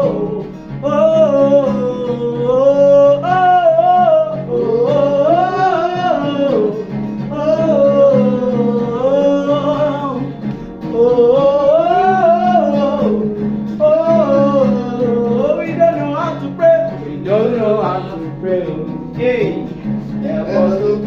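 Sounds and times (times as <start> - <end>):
guitar accompaniment: 0.0 - 21.0
person singing wordless phrases: 0.0 - 21.0.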